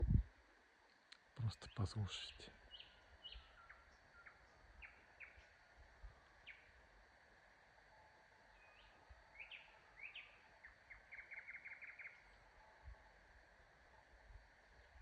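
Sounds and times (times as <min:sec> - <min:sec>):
songbirds chirping: 0:00.4 - 0:15.0.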